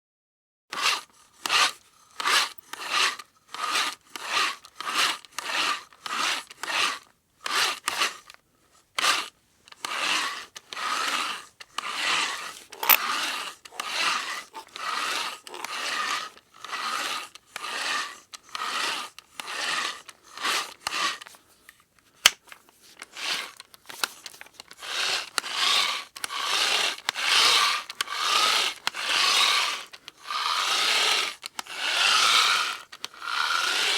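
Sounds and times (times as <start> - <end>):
hand drill grinding rasp: 0.7 - 21.4, 22.9 - 33.9.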